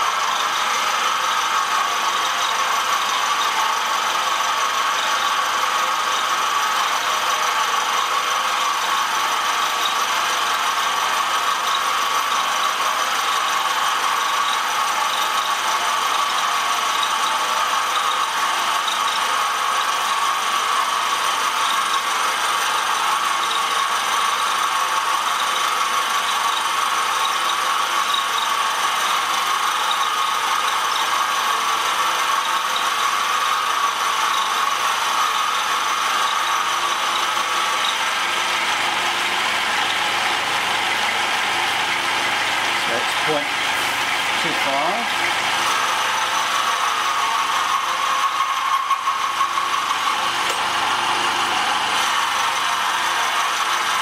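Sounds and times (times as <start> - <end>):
milling machine cutting metal: 0.0 - 54.0.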